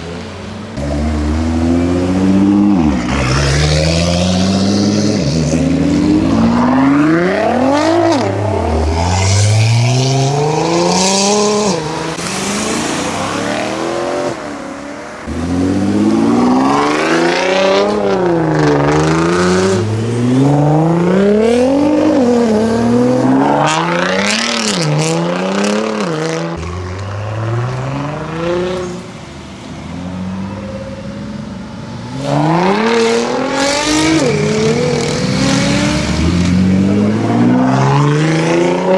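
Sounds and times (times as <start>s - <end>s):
car engines revving hard: 0.0s - 38.9s.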